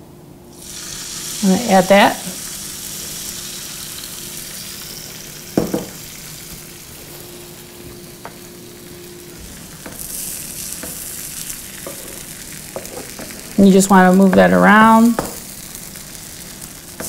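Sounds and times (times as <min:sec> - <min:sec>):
eggs and peppers sizzling on griddle: 0:00.5 - 0:17.0.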